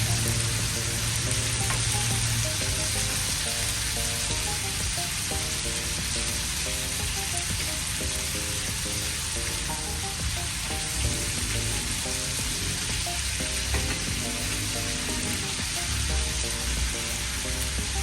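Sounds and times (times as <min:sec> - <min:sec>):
light background music: 0:00.0 - 0:18.0
vegetables sizzling in hot oil: 0:00.0 - 0:18.0.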